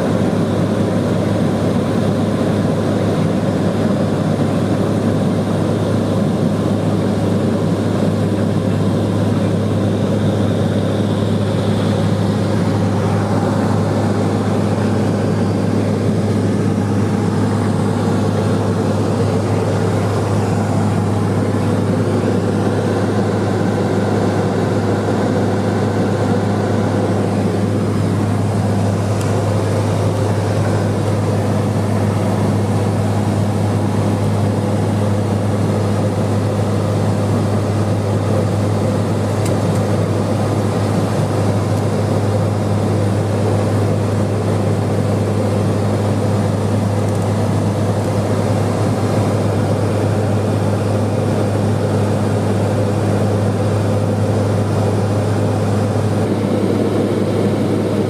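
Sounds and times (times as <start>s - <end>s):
aircraft cabin engine drone: 0.0s - 58.0s.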